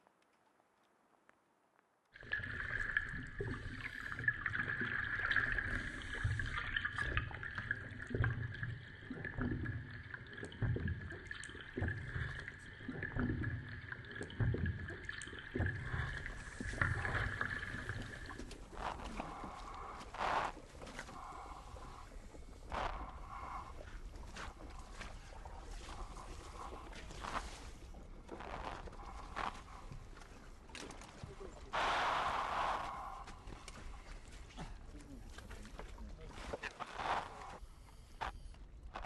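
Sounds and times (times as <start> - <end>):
water gurgling and sloshing: 2.2 - 39.0.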